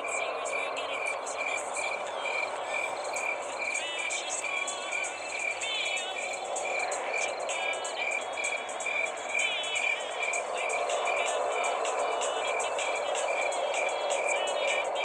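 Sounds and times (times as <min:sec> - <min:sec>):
crickets chirping: 0:00.0 - 0:15.0
frogs calling: 0:00.0 - 0:15.0
steady hiss: 0:00.0 - 0:15.0.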